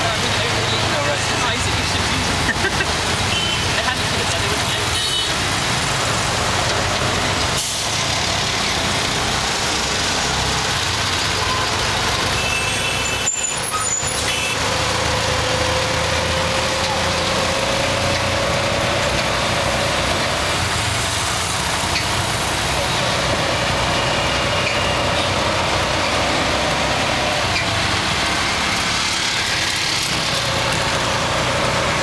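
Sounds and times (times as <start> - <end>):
dense street traffic: 0.0 - 32.0.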